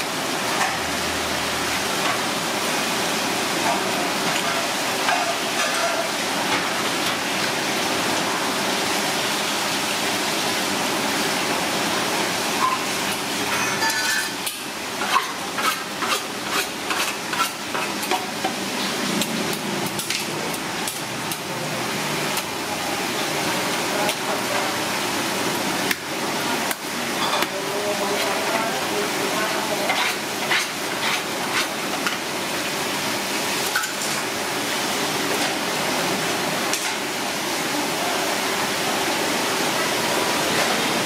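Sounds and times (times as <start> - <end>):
food sizzling: 0.0 - 41.0.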